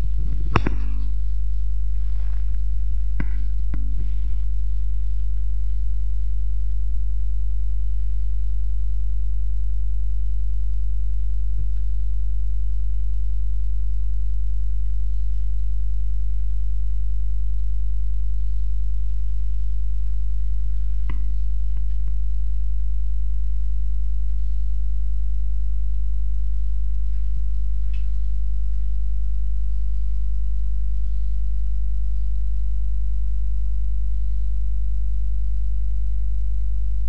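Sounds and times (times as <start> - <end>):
loud steady low hum: 0.0 - 37.0.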